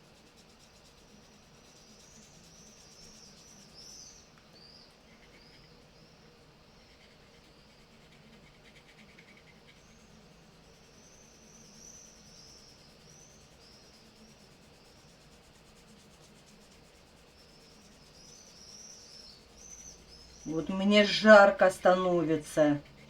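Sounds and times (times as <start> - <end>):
faint high-pitched chirping: 0.0 - 23.0.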